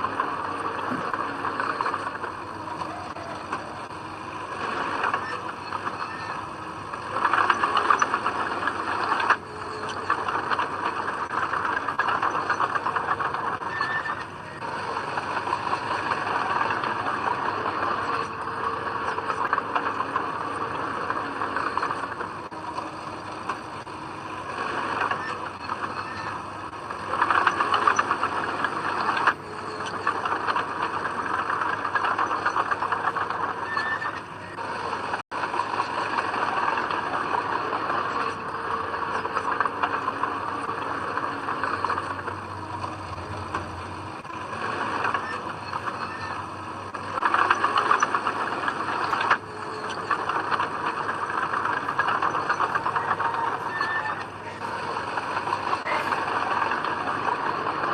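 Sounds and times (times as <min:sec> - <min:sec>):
bulldozer engine running: 0:00.0 - 0:57.9
tracks squealing and clattering: 0:00.0 - 0:57.9.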